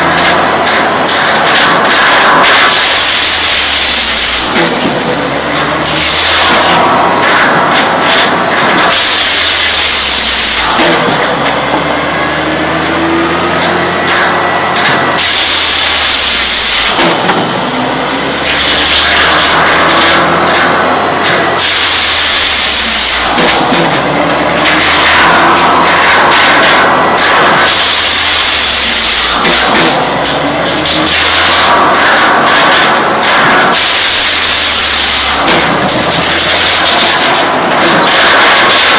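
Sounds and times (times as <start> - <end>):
engine drone: 0.0 - 38.9.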